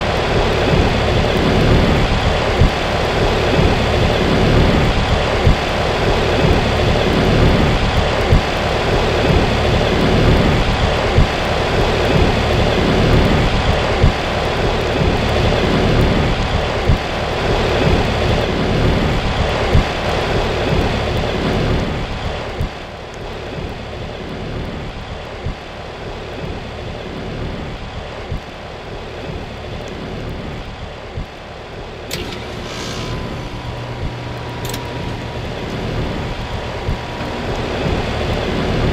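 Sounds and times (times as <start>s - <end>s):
heat pump rushing noise: 0.0s - 38.9s.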